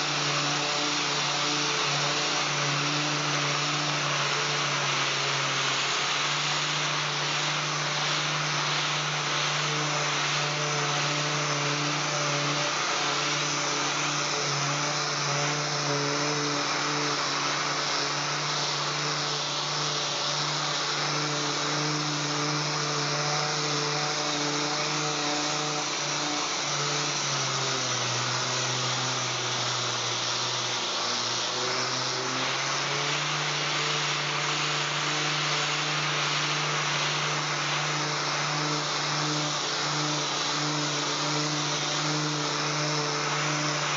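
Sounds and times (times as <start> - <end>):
air sander whirring: 0.0 - 43.9.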